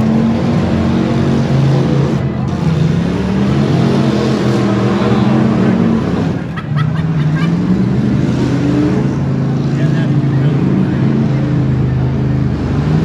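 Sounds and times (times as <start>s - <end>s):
loud car engines running: 0.0s - 13.0s.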